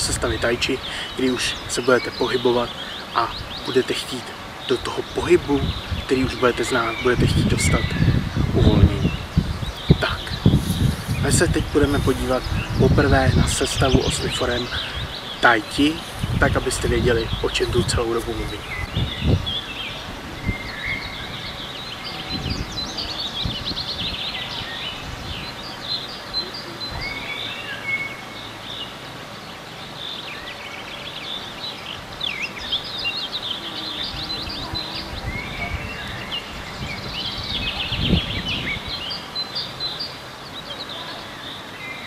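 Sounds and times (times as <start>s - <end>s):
songbirds chirping and singing: 0.0s - 42.0s.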